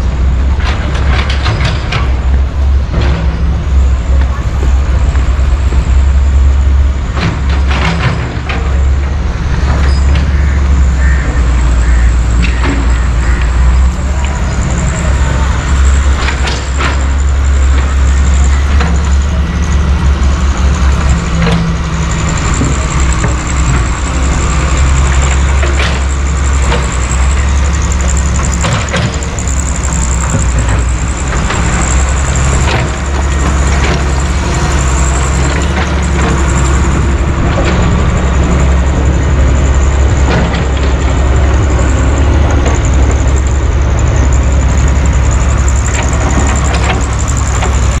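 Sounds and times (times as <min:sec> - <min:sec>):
heavy diesel engines running: 0:00.0 - 0:48.0.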